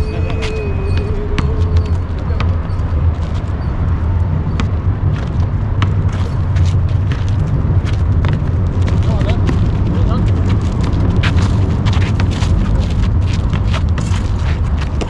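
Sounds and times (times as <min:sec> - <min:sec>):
basketball bouncing: 0:00.0 - 0:15.0
footsteps on asphalt: 0:00.0 - 0:15.0
low rumble: 0:00.0 - 0:15.0.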